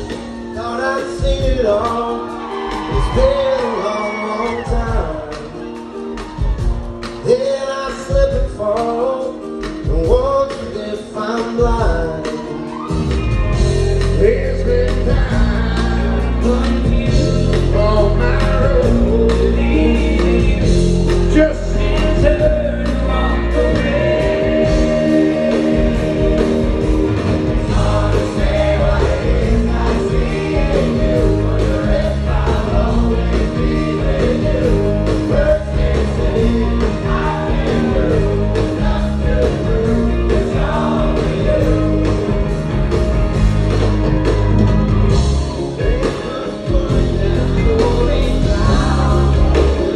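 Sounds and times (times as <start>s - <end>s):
rock band with singing: 0.0s - 49.9s.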